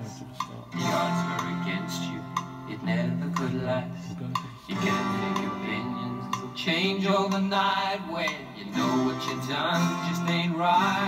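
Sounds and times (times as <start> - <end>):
pop music from small loudspeaker: 0.0 - 11.0.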